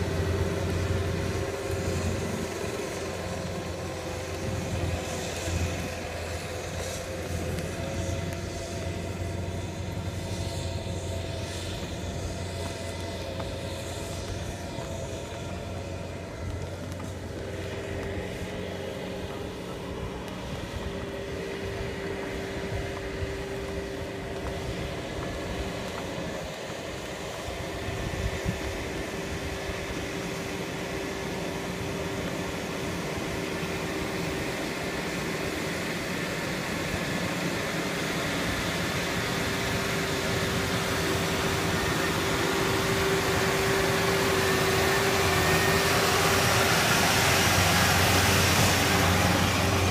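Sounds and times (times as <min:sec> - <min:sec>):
rotary tiller churning mud: 0:00.0 - 0:49.9
steady whine: 0:00.0 - 0:49.9
tractor engine running: 0:00.0 - 0:49.9.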